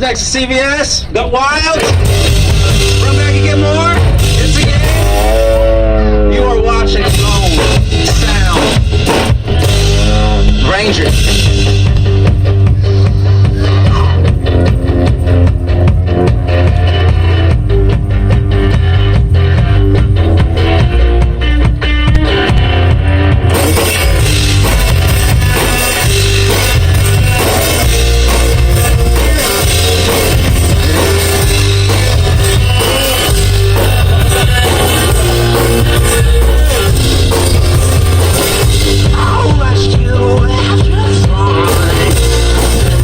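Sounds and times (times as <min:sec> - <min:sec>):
bass line: 0:00.0 - 0:43.0
drum beat: 0:01.8 - 0:06.0, 0:06.6 - 0:43.0
strummed guitar: 0:01.8 - 0:43.0.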